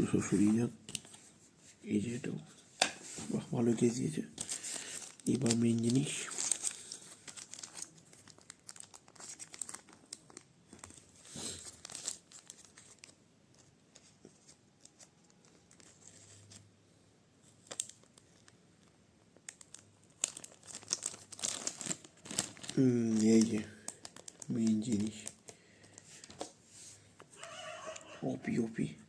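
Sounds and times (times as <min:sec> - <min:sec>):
packaging crinkling and rustling: 0:00.0 - 0:16.7, 0:17.4 - 0:28.1.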